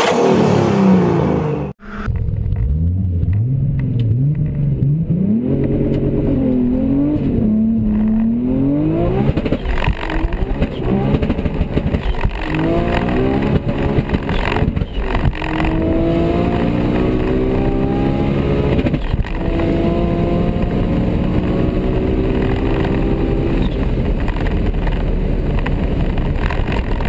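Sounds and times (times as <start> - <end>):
turbo car engine accelerating: 0.0 - 27.0.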